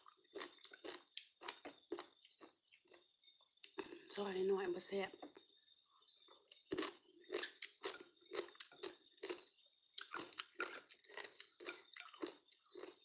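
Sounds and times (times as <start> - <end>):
person chewing crunchy food: 0.0 - 4.1, 6.2 - 13.0.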